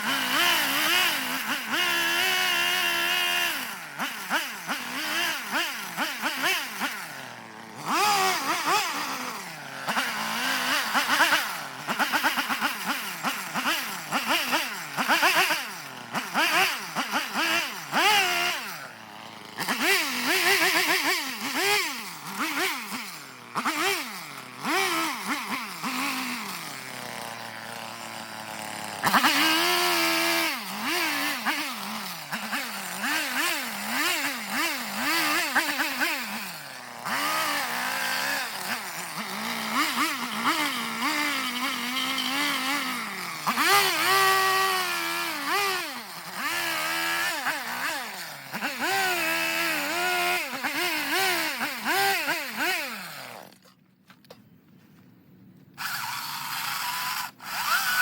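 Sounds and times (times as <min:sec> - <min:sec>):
chainsaw revving while cutting: 0:00.0 - 0:53.8, 0:55.8 - 0:58.0.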